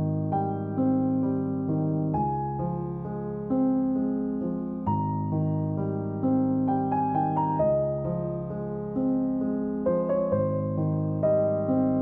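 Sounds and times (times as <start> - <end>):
soft piano-like chords: 0.0 - 12.0.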